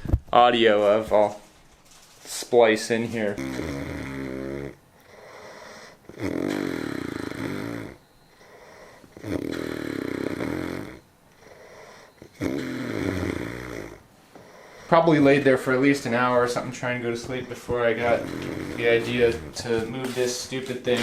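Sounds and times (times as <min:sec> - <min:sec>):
quiet breathing: 0:03.1 - 0:20.6
person snoring heavily: 0:03.1 - 0:21.0.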